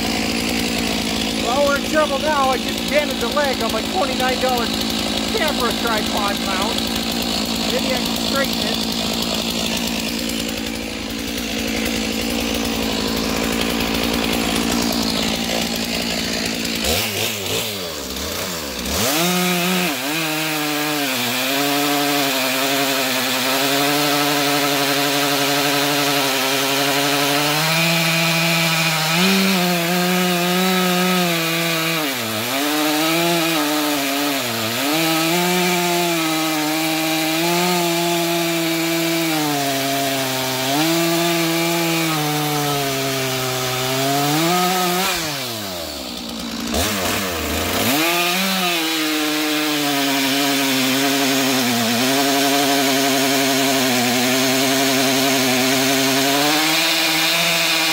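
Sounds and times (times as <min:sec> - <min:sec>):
chainsaw cutting through log: 0:00.0 - 0:57.9.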